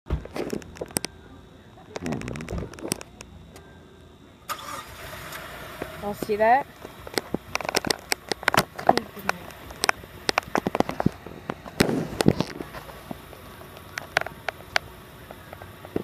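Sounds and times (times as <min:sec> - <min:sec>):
sharp clicks and pops: 0:00.1 - 0:01.2, 0:01.9 - 0:03.7, 0:05.8 - 0:16.0.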